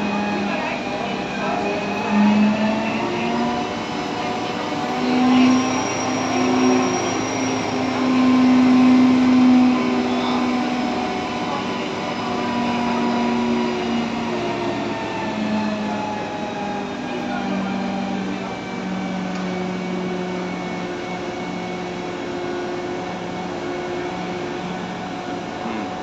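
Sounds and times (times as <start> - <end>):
crane engine and hydraulics drone: 0.0 - 26.0.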